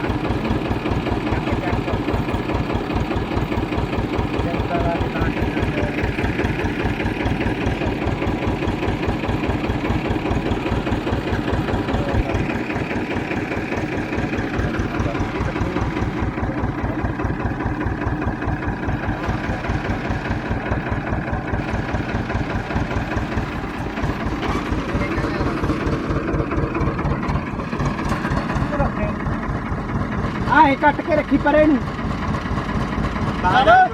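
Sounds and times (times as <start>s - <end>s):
tractor diesel engine chugging: 0.0s - 33.9s.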